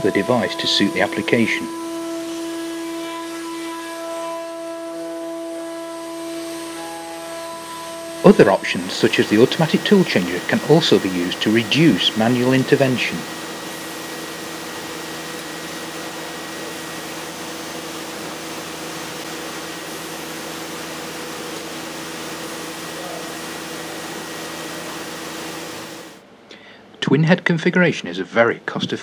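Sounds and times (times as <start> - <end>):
router machine hum: 0.0 - 26.2.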